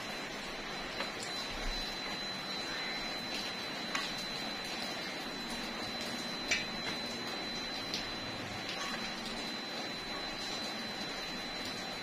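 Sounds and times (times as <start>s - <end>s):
refrigeration machinery running: 0.0s - 12.0s
thin high whine: 0.0s - 12.0s.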